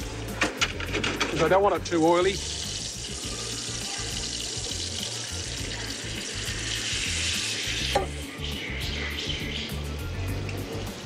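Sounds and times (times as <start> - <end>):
marinade sizzling in a frying pan: 1.4 - 10.9.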